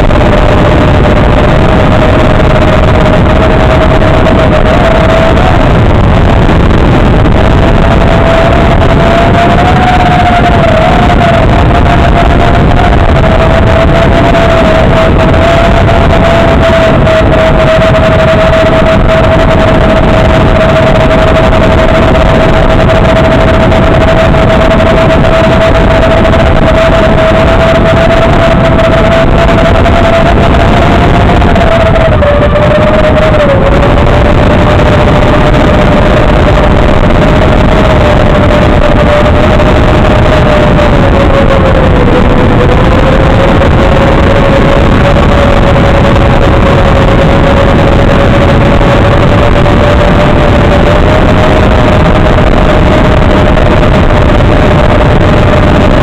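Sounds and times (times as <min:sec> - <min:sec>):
drone motor tone: 0:00.0 - 0:56.0
loud static hiss: 0:00.0 - 0:56.0
video link noise rush: 0:00.0 - 0:56.0.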